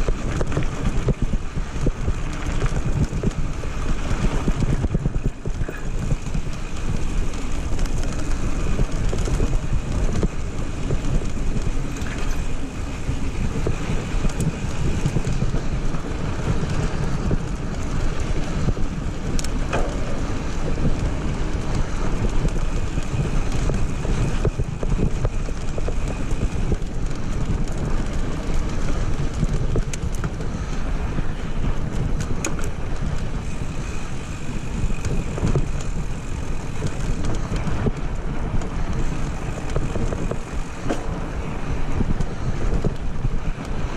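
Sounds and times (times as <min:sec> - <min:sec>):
bike rattling over bumps: 0:00.0 - 0:43.9
bike tyres rolling over gravel: 0:00.0 - 0:43.9
wind rumbling on microphone: 0:00.0 - 0:43.9.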